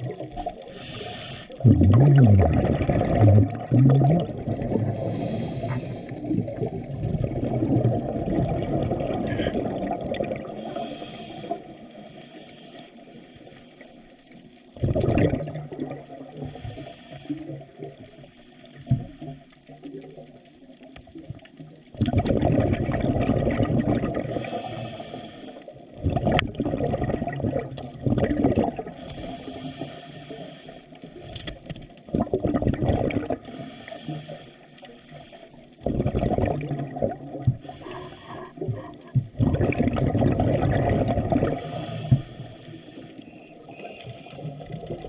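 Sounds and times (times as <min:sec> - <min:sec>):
muffled water churning and gurgling: 0:00.0 - 0:45.0.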